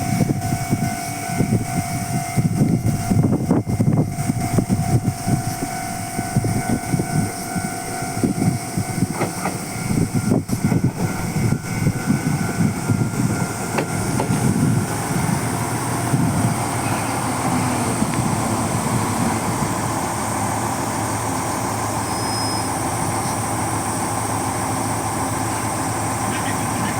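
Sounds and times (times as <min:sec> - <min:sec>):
train running drone: 0:00.0 - 0:26.9.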